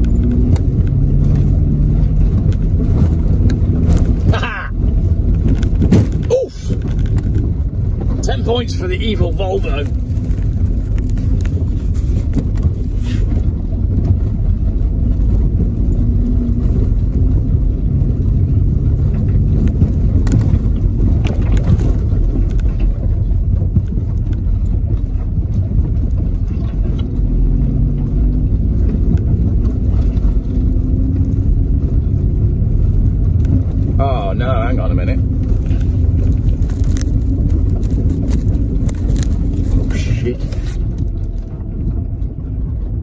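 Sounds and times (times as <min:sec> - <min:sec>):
car engine running at low revs: 0:00.0 - 0:43.0
car rumbling over mud track: 0:00.0 - 0:43.0.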